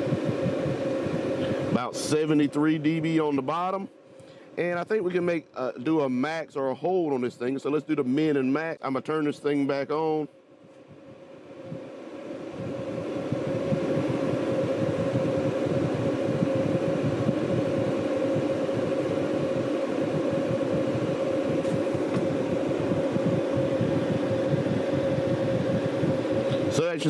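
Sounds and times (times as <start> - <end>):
inverter mechanical hum: 0.0 - 27.0
steady mid-pitched tone: 0.0 - 27.0.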